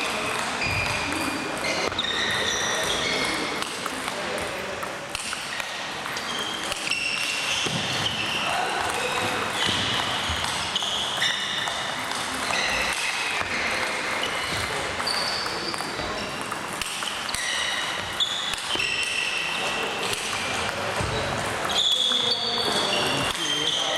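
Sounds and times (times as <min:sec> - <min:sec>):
people talking: 0:00.0 - 0:23.9
sneakers squeaking on floor: 0:00.0 - 0:23.9
table tennis balls clicking: 0:00.0 - 0:23.9.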